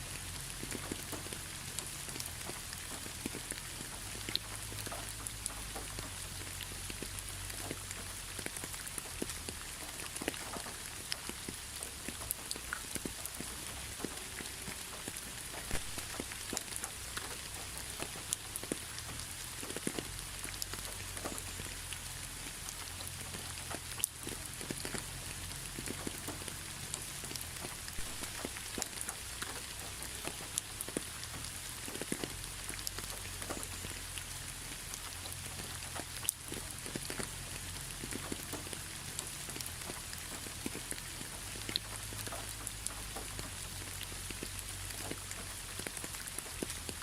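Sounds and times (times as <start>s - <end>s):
raindrops ticking on a surface: 0.0s - 47.0s.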